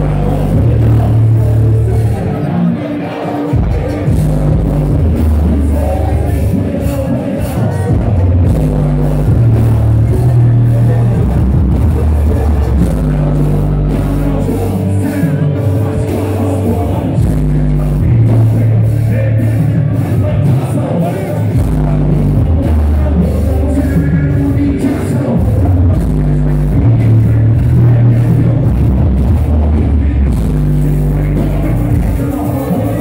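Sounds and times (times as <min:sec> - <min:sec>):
deep bass notes: 0:00.0 - 0:33.0.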